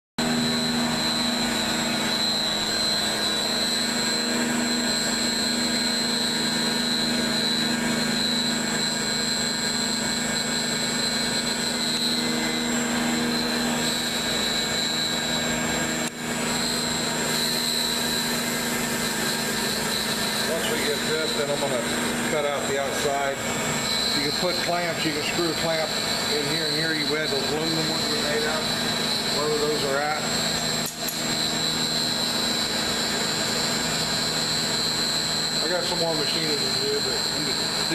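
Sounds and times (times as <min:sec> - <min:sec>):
constant machine noise: 0:00.2 - 0:37.9
router spindle whine: 0:00.2 - 0:37.9.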